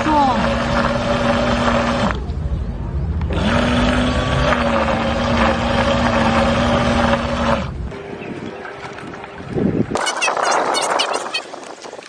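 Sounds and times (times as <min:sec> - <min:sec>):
electric propeller motors whining: 0:00.0 - 0:02.4, 0:03.2 - 0:11.4.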